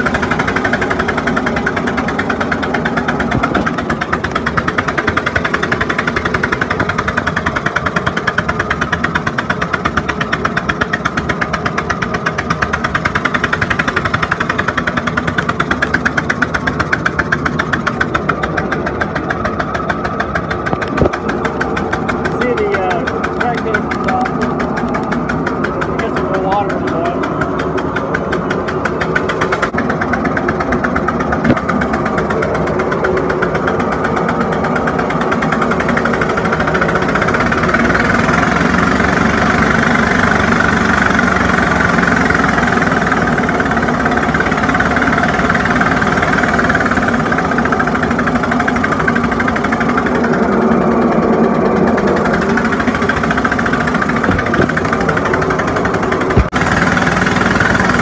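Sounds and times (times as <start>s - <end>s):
steam engine running: 0.0s - 58.0s.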